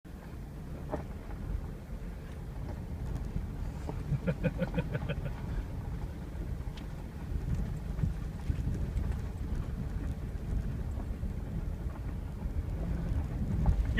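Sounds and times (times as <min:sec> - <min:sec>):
truck rumbling on dirt trail: 0:00.1 - 0:13.9
wind on microphone: 0:00.7 - 0:13.9.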